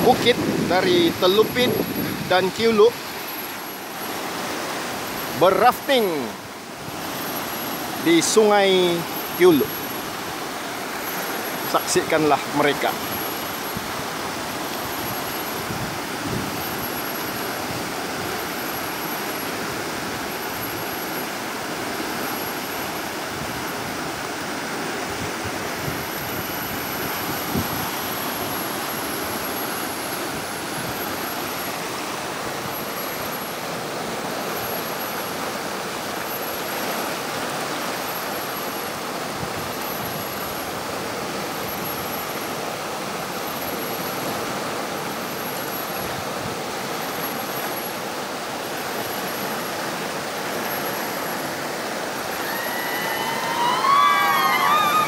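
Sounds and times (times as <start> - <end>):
river rapids rushing over rocks: 0.0 - 55.0.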